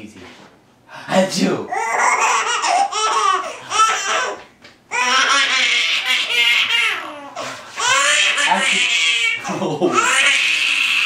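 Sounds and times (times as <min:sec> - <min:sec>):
baby laughing: 0:01.7 - 0:11.0.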